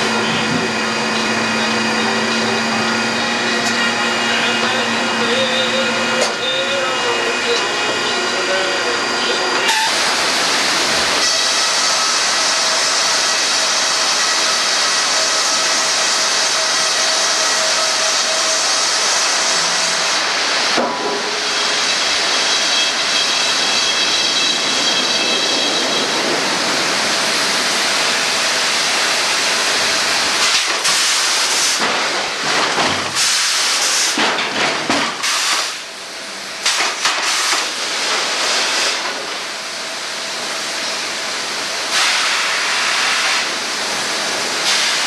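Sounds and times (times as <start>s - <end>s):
sawmill machinery hissing: 0.0s - 34.2s, 35.1s - 45.0s.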